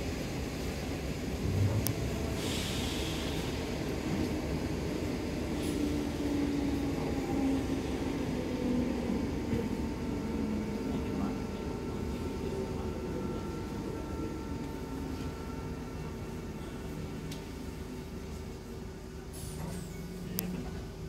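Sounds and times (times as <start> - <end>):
train cabin low rumble: 0.0 - 21.0.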